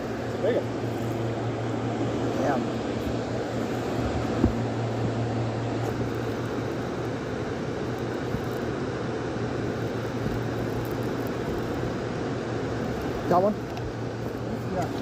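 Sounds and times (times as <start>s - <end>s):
constant low hum: 0.0s - 15.0s
steady rumbling noise: 0.0s - 15.0s.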